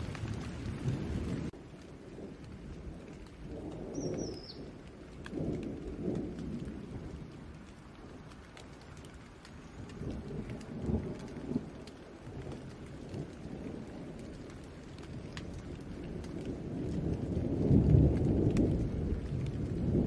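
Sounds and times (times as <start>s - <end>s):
rain falling: 0.0s - 20.0s
thunder rumbling: 0.0s - 20.0s.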